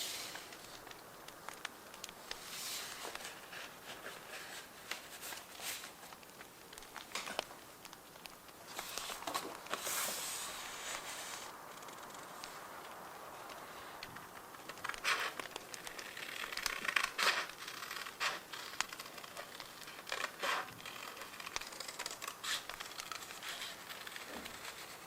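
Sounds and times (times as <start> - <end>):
bonfire crackling and popping: 0.0 - 25.0
paper rustling and sliding: 0.0 - 25.0.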